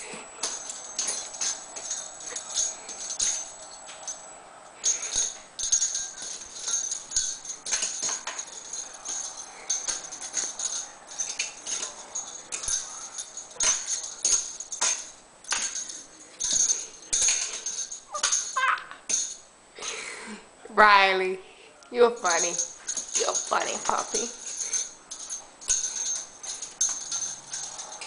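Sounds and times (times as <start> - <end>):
bells jingling on door: 0.0 - 19.5, 22.1 - 28.0.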